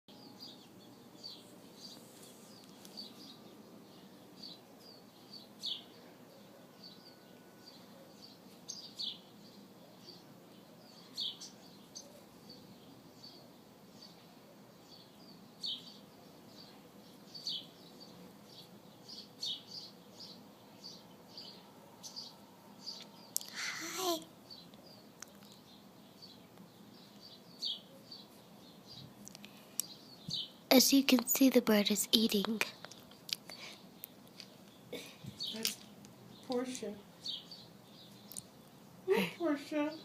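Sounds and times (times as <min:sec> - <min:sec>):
faint background noise: 0:00.1 - 0:40.0
small birds chirping: 0:00.1 - 0:40.0.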